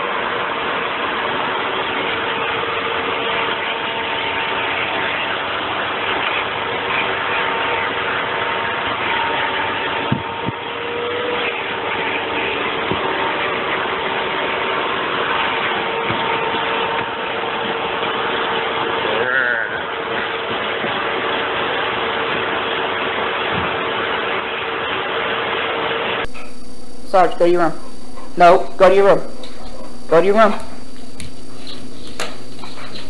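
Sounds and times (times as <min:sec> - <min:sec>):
vacuum cleaner motor running: 0:00.0 - 0:33.0.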